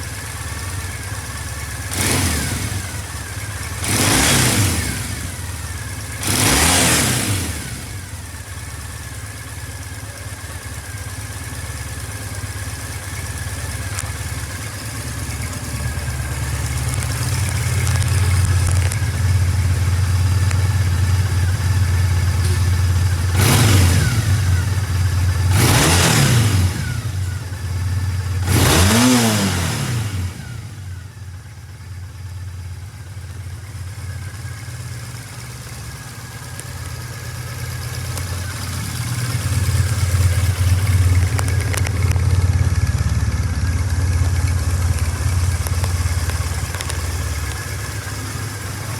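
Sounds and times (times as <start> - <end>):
motorcycle engine idling and revving: 0.0 - 48.9.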